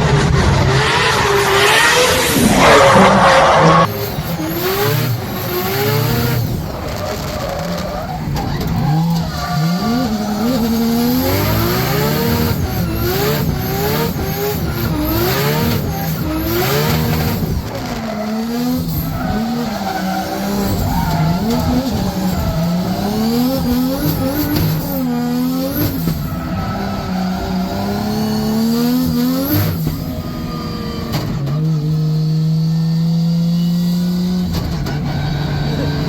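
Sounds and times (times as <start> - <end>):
car engine revving: 0.0 - 36.0
tyres skidding: 0.0 - 36.0.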